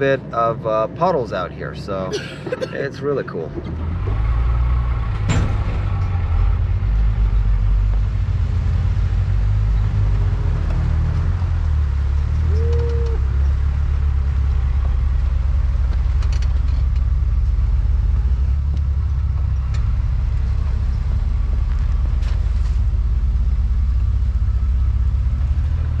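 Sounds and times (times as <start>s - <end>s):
engine and road rumble: 0.0s - 26.0s.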